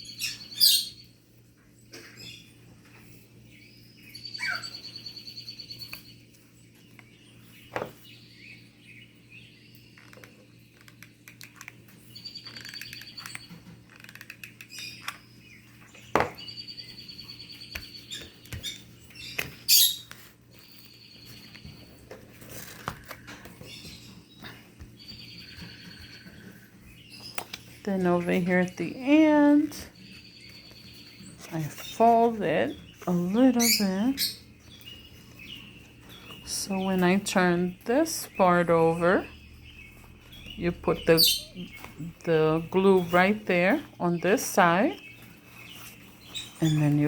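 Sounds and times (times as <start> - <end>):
lovebirds chirping: 0.0 - 47.0.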